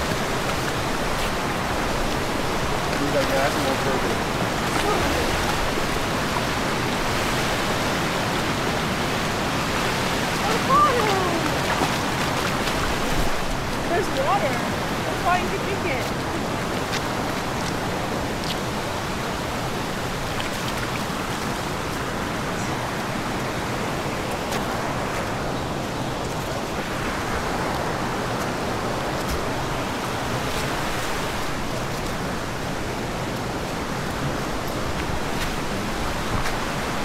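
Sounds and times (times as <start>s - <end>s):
creek water flowing over rock: 0.0s - 37.0s.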